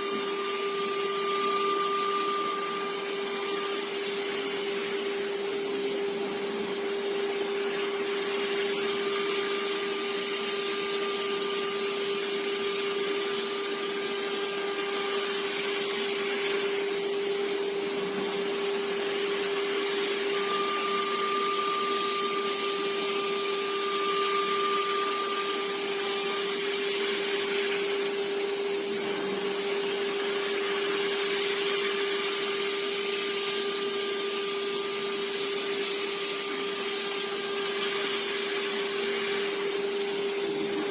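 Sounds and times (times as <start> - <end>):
spindle motor whine: 0.0 - 40.9.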